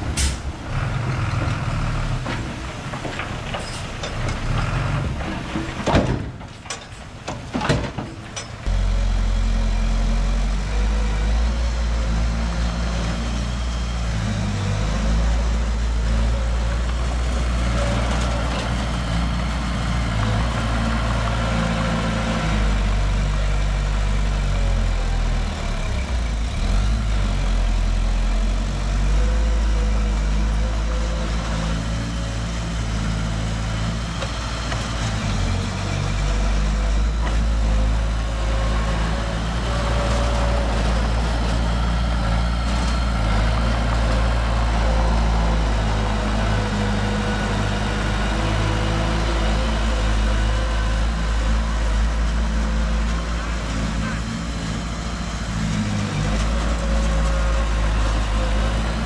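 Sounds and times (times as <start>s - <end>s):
heavy machine engines running: 0.0s - 59.0s.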